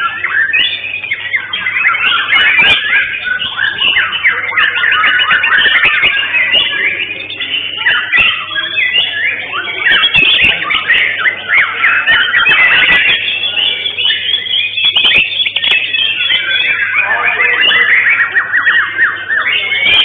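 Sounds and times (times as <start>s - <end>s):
songbirds whistling and chattering: 0.0s - 20.0s.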